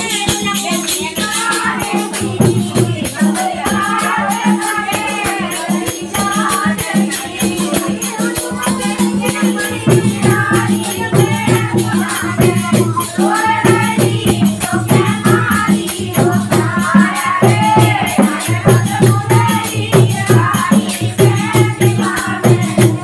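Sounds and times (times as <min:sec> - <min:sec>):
rattling percussion beat: 0:00.0 - 0:23.0
women singing together: 0:00.0 - 0:23.0.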